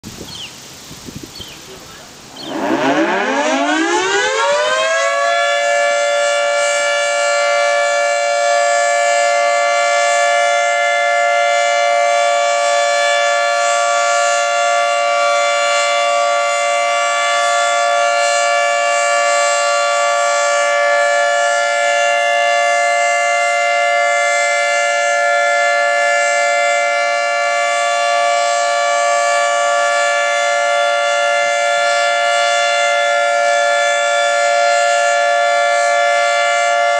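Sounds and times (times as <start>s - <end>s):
outdoor warning siren: 0.1s - 36.9s.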